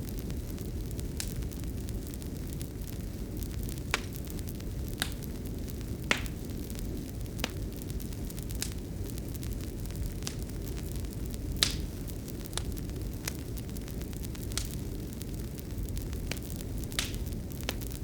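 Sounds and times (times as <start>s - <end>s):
fire crackles and pops: 0.0s - 18.0s
fire rumbling: 0.0s - 18.0s.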